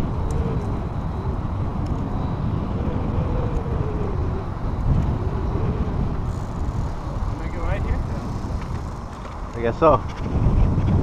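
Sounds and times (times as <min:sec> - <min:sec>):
bicycle riding noise: 0:00.0 - 0:11.0
wind rumble on microphone: 0:00.0 - 0:11.0.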